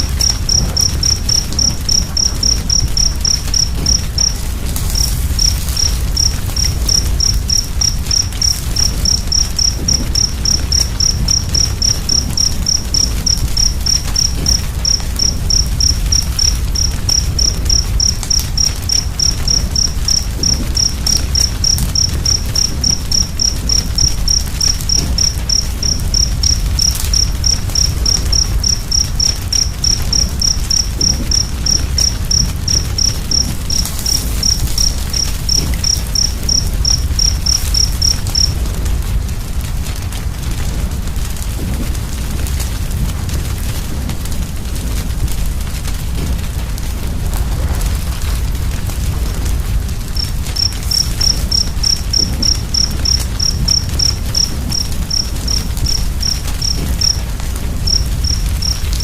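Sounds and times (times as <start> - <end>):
cricket chirping: 0.0 - 39.6, 41.6 - 59.0
crackling fire: 0.0 - 59.0.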